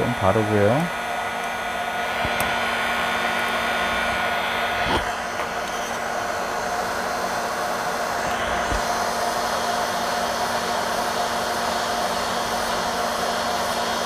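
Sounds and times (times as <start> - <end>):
faint motor hum: 0.0 - 14.0.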